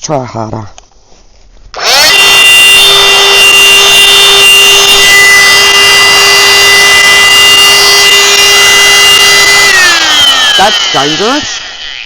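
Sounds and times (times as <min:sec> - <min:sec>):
power tool high-pitched whine: 0:01.8 - 0:12.0.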